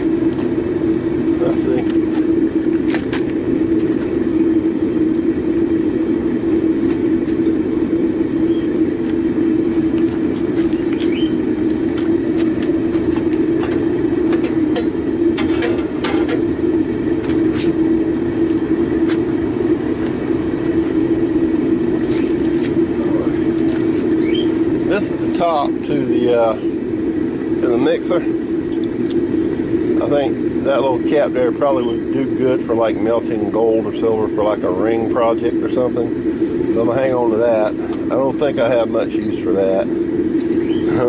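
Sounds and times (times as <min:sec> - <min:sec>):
gas burner humming: 0:00.0 - 0:41.0.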